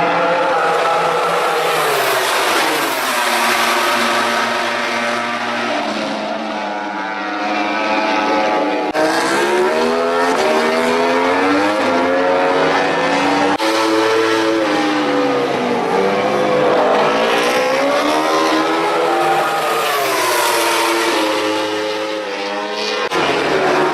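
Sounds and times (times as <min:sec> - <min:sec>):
racing motorcycle engines revving: 0:00.0 - 0:23.9.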